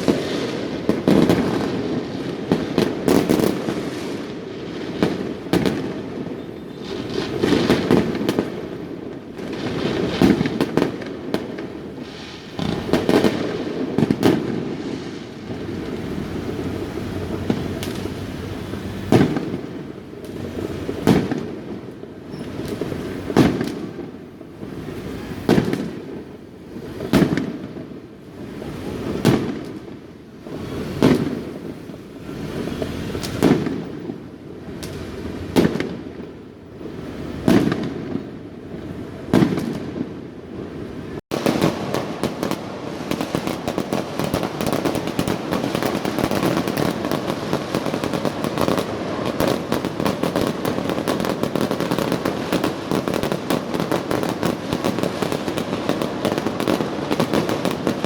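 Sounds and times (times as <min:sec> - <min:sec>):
firecrackers crackling: 0:00.0 - 0:58.0
fireworks booming: 0:00.0 - 0:58.0.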